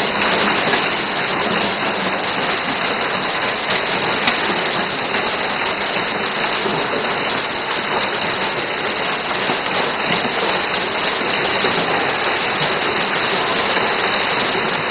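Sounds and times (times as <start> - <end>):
heavy rain and hail: 0.0 - 14.9.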